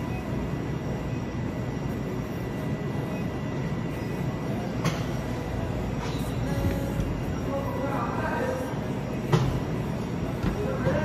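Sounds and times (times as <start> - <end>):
faint high whine: 0.0 - 9.2
shop background rumble: 0.0 - 11.0.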